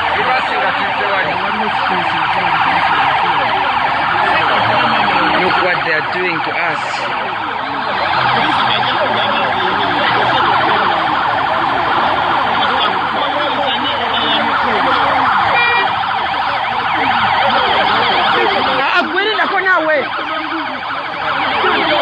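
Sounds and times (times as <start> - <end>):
sirens wailing: 0.0 - 22.0
voices: 0.0 - 22.0.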